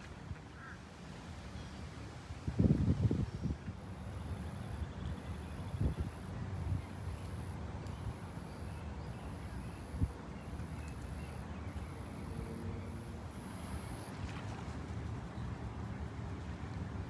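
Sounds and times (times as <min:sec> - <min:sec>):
wind rumble on microphone: 0:01.3 - 0:17.0.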